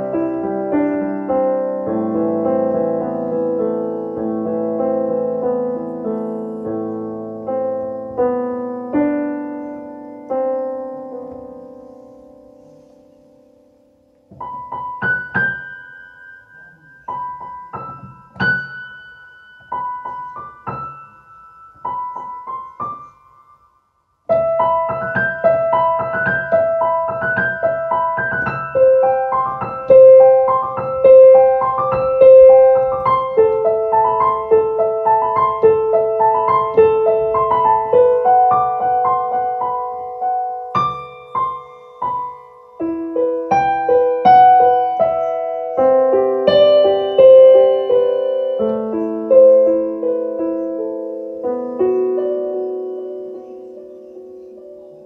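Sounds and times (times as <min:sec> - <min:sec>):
slow solo piano piece: 0:00.0 - 0:55.0.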